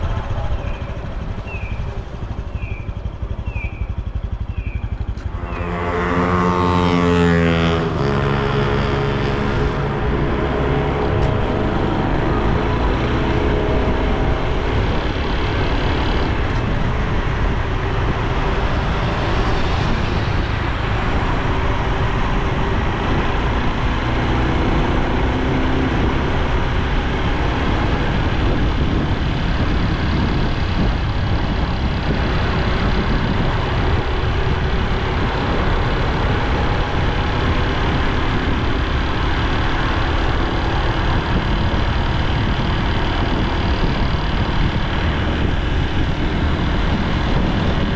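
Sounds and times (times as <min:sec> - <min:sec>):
motorcycle engine running: 0:00.0 - 0:47.9
road noise: 0:00.0 - 0:47.9.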